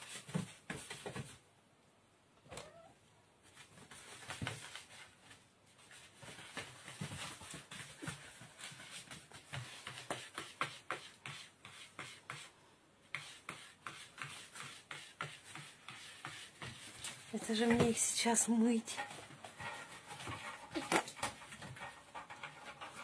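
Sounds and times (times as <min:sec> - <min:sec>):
cat paws scratching on sugar: 0:03.4 - 0:23.0.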